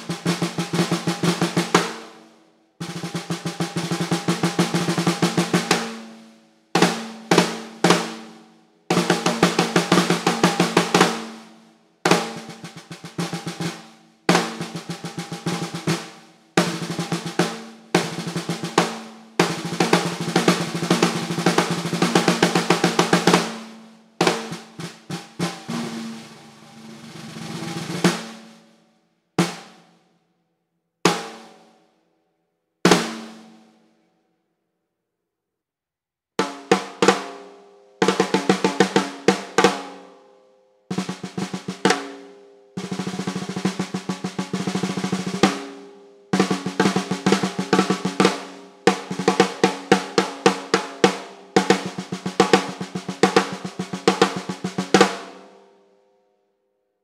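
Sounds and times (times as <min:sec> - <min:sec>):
snare drum strokes and rolls: 0:00.0 - 0:02.2, 0:02.8 - 0:30.0, 0:32.9 - 0:33.6, 0:36.4 - 0:40.0, 0:40.9 - 0:55.6.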